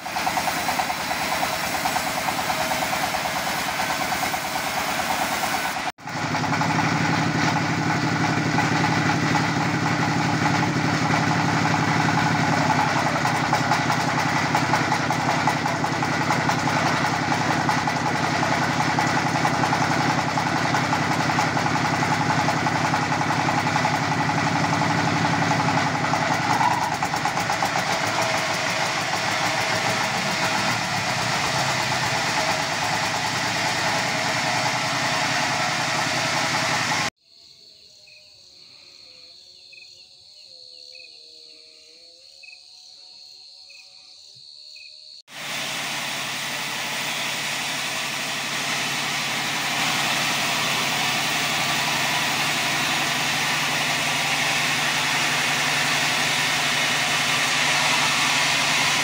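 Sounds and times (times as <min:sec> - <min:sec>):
sawmill sawing log: 0:00.0 - 0:37.1, 0:45.3 - 0:59.0
small engine running: 0:00.0 - 0:37.2, 0:45.3 - 0:59.0.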